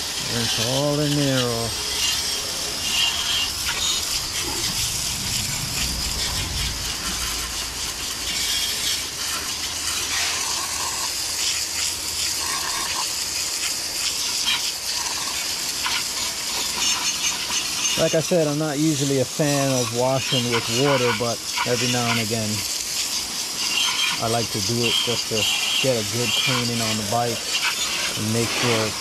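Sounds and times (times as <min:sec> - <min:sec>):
hose spray hissing and spattering: 0:00.0 - 0:29.0.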